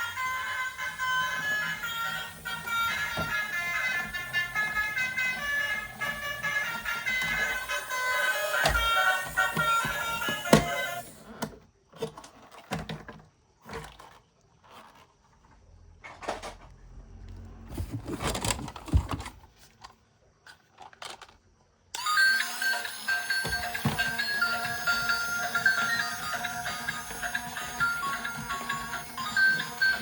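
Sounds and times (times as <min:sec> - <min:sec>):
toys and packaging handled: 0:00.0 - 0:16.9, 0:17.7 - 0:30.0.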